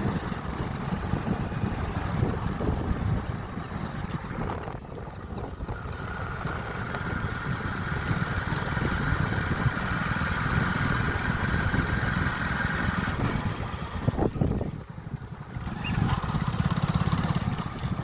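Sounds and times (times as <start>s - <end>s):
motorbike engine running: 0.0s - 18.0s
wind buffeting microphone: 0.0s - 18.0s.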